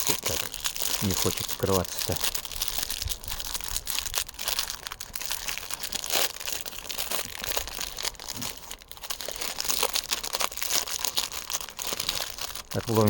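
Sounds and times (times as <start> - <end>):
wrapper crinkling and tearing: 0.0 - 13.0.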